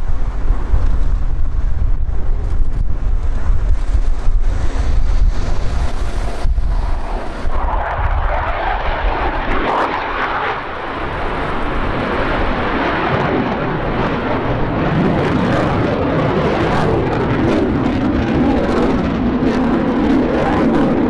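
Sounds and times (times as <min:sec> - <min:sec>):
jet engines roaring overhead: 0:00.0 - 0:21.0
wind rumble on microphone: 0:00.0 - 0:21.0.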